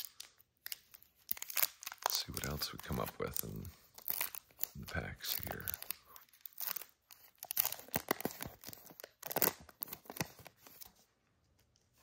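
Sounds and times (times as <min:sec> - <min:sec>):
card pack wrapper tearing: 0:00.0 - 0:10.8.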